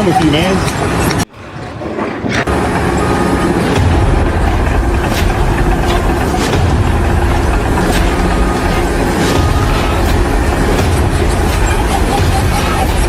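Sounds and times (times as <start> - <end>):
heavy machine low rumble: 1.8 - 13.0.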